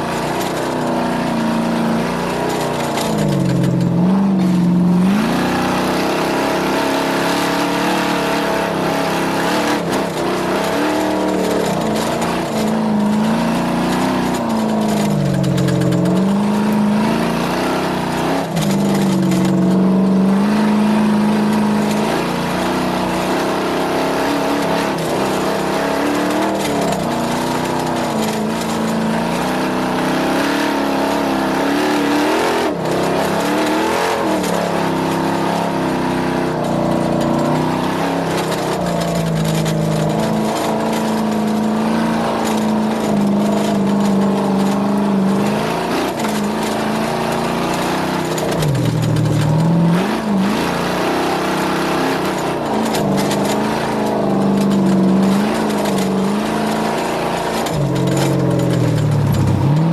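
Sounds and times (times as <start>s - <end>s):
engine revving hard: 0.0s - 59.9s.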